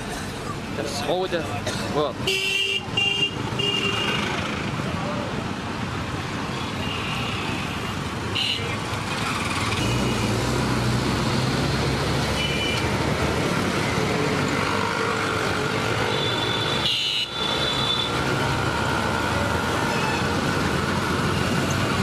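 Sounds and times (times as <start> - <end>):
traffic engines din: 0.0 - 22.0.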